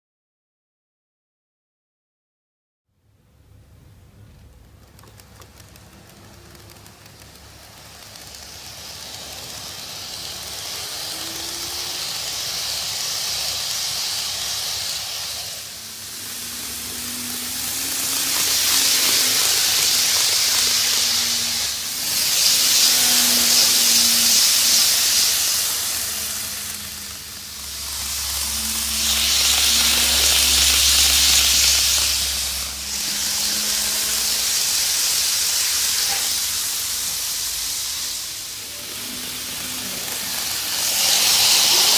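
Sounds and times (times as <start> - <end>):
faint motor hum: 3.0 - 41.9
model train wheels hissing on rails: 4.9 - 41.9.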